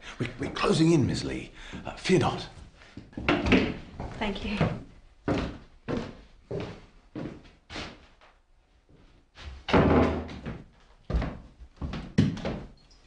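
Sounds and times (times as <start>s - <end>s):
footsteps on floor: 1.7s - 12.8s.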